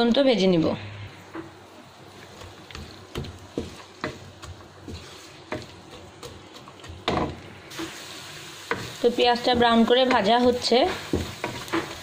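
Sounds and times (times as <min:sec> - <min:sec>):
onions sizzling in hot oil: 0:01.2 - 0:12.0
wooden spatula scraping wok: 0:02.1 - 0:12.0.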